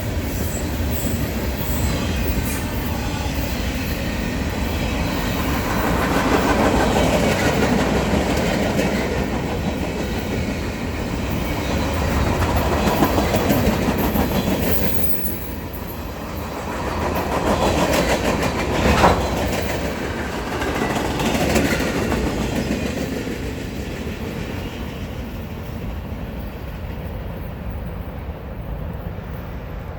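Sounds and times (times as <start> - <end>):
train wheels clicking over rail joints: 0.0 - 27.8.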